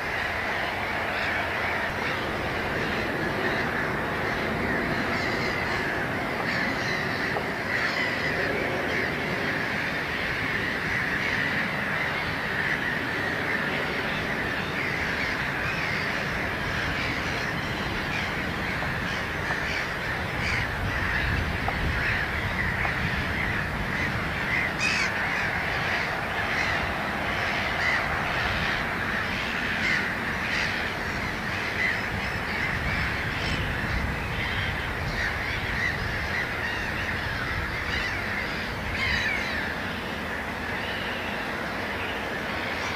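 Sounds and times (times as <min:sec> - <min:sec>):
birds calling: 0:00.0 - 0:42.9
sharp bird calls: 0:00.0 - 0:42.9.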